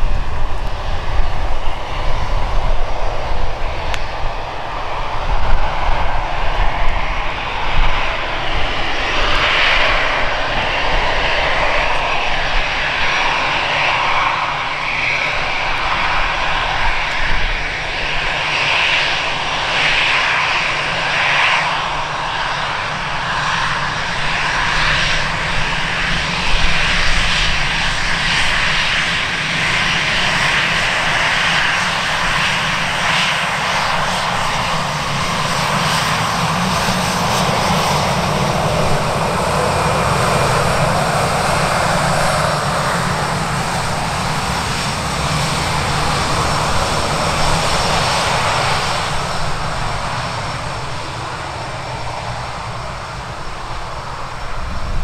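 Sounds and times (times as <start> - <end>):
airliner engines running: 0.0 - 55.0.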